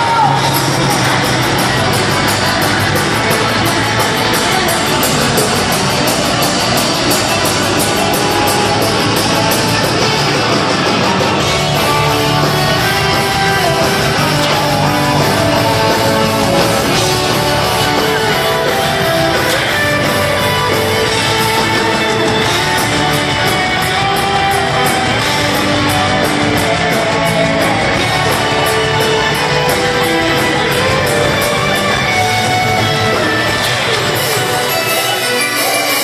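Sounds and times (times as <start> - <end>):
guitar melody line: 0.0 - 36.0
heavy metal band playing: 0.0 - 36.0.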